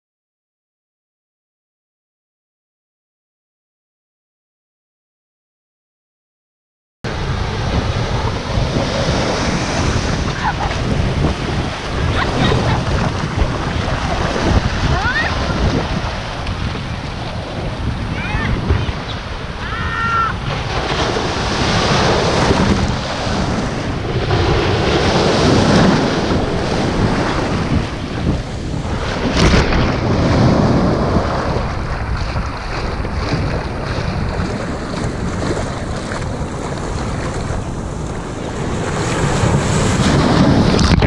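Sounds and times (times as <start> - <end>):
waves washing up on sand: 7.1 - 41.0
wind rumble on microphone: 7.1 - 41.0.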